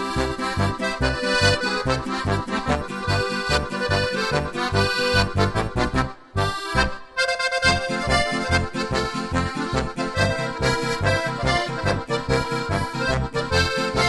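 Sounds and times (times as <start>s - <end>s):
accordion playing lively tune: 0.0s - 14.0s.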